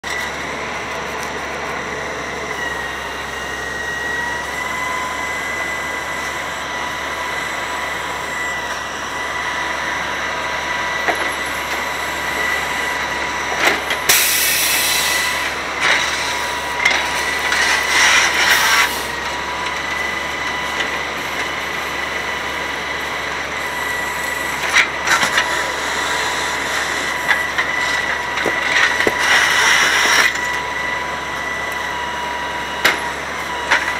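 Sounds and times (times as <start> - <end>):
hydraulic loader whine: 0.0 - 33.9
truck engine running: 0.0 - 33.9.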